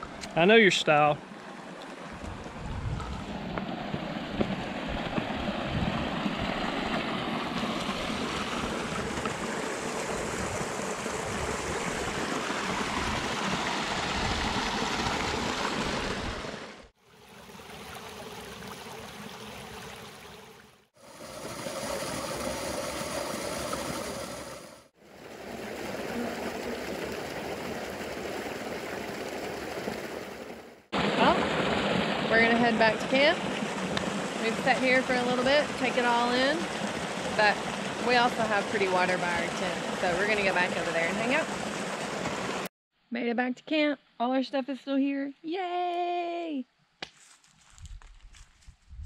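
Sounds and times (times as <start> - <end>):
creek water rushing over rocks: 0.0 - 42.7.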